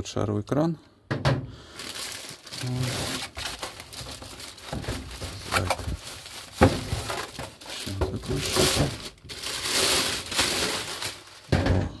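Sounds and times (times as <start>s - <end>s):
plastic bag crinkling: 1.6s - 11.9s
polystyrene foam rubbing: 1.8s - 11.5s.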